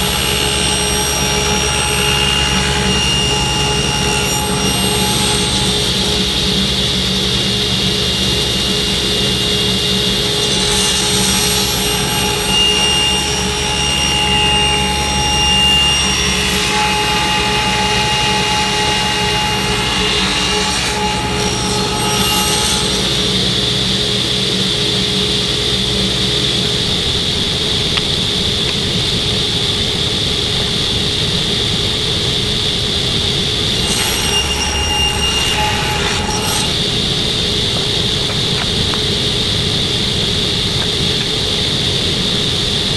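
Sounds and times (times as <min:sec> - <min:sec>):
table saw cutting wood: 0:00.0 - 0:42.9.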